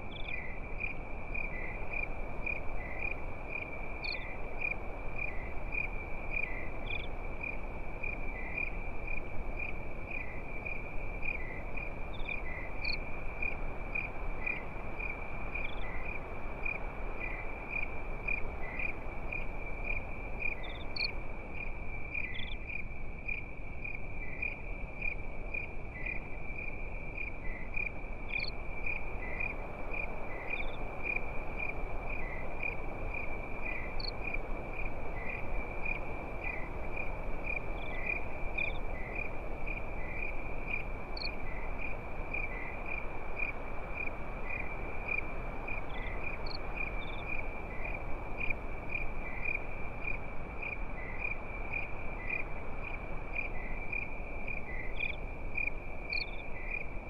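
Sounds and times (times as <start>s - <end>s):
constant soft hiss: 0.0s - 57.0s
crickets chirping: 0.0s - 57.0s.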